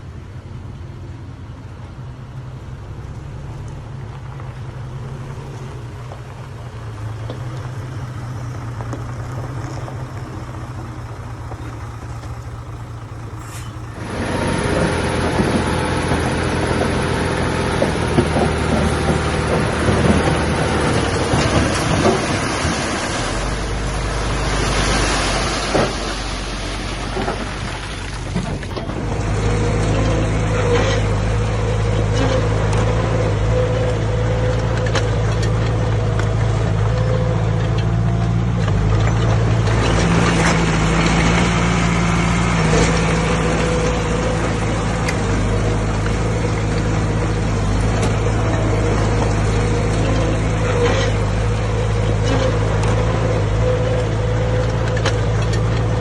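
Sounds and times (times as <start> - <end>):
heavy diesel machinery engine: 0.0 - 56.0
machinery clatter: 1.8 - 56.0.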